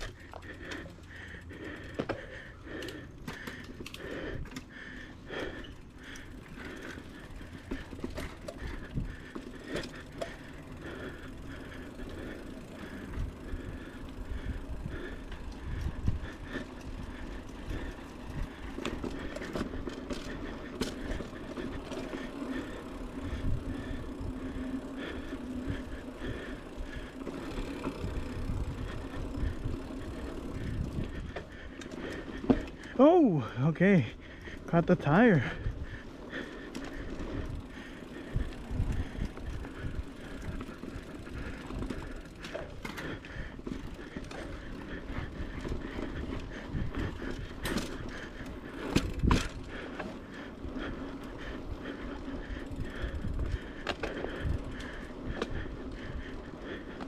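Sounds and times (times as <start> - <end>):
bike rattling over bumps: 0.0 - 57.0.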